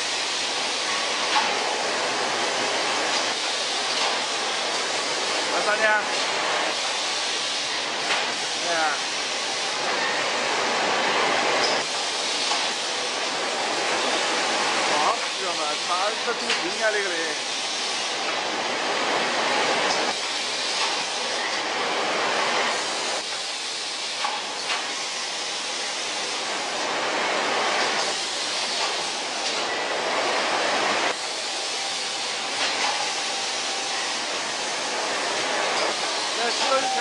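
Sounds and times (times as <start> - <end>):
production line machinery: 0.0 - 37.0.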